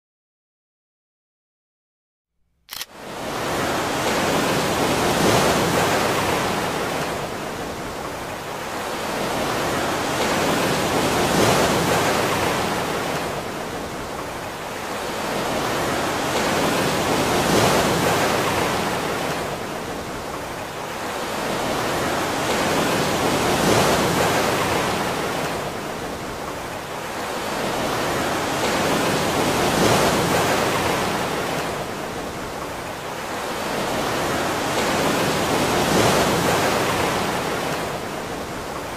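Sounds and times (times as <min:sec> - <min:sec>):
surf waves washing in: 0:02.8 - 0:38.9.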